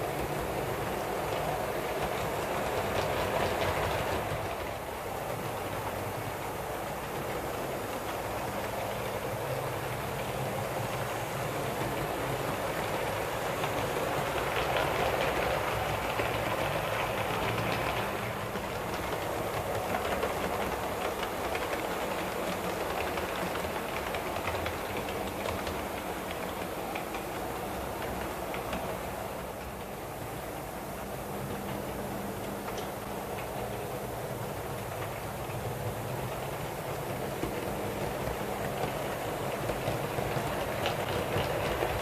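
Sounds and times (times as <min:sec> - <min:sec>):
faint wheel ticks on rails: 0:00.0 - 0:42.0
model train engine drone: 0:00.0 - 0:42.0.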